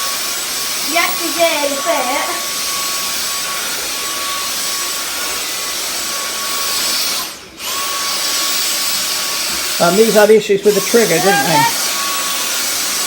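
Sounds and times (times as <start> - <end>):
cordless vacuum whining: 0.0 - 13.0.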